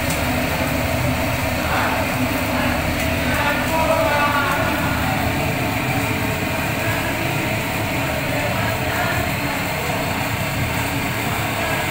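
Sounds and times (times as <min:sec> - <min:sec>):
gas burner rushing: 0:00.0 - 0:11.9.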